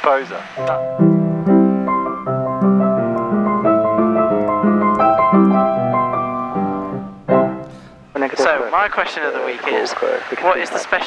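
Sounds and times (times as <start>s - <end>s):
upright piano tune over chords: 0.0s - 11.0s.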